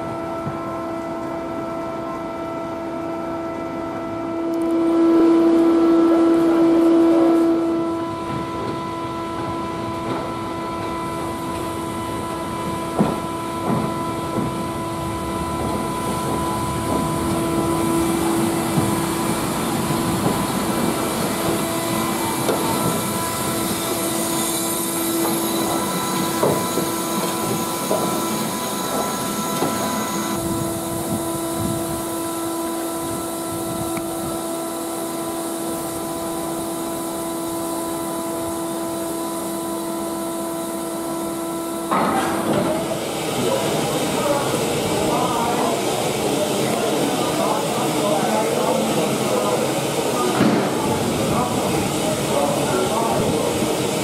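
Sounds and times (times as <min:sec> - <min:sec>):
steam hissing: 0:10.6 - 0:54.0.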